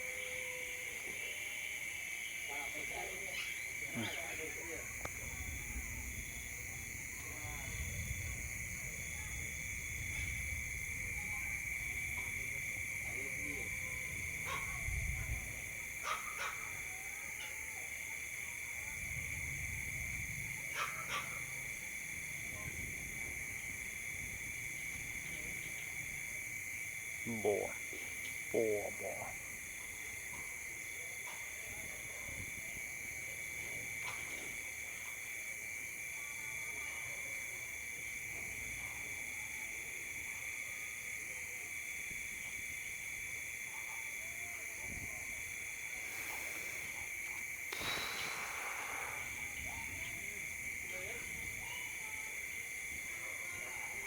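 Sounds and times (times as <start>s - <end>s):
crickets and cicadas buzzing: 0.0s - 54.0s
night insects trilling: 0.0s - 54.0s.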